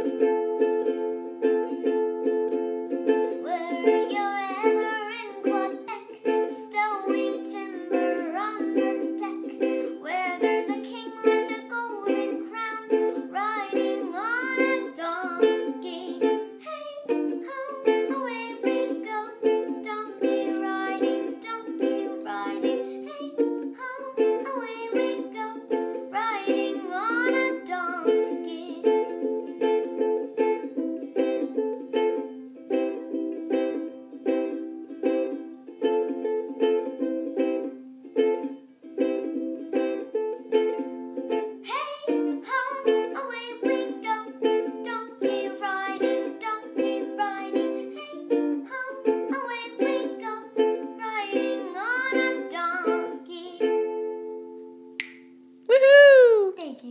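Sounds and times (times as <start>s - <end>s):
girl singing: 0.0s - 37.8s, 38.4s - 54.6s, 55.7s - 56.9s
ukulele strumming: 0.0s - 56.9s.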